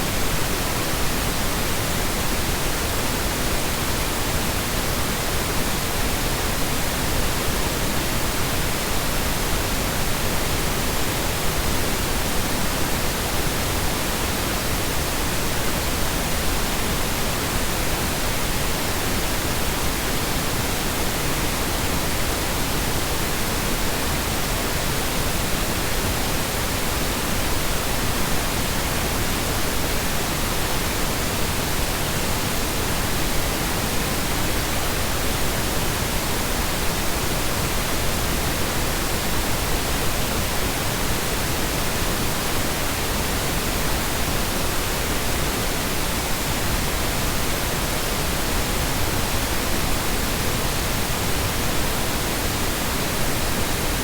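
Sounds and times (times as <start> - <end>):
steady synthetic noise hiss: 0.0 - 54.0.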